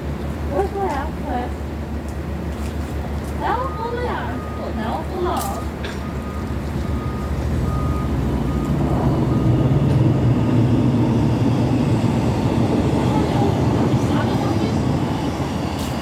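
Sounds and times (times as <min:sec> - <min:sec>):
train passing rumble: 0:00.0 - 0:16.0.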